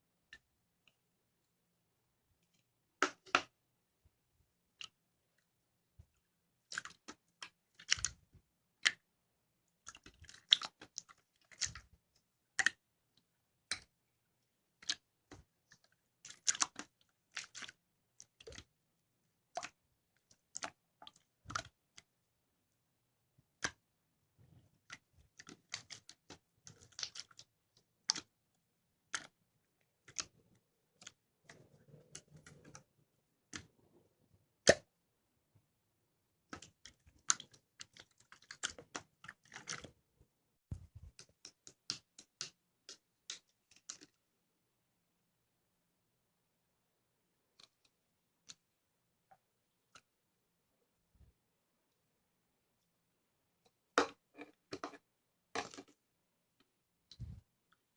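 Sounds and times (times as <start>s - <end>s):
soft slime squish: 0.0s - 57.9s.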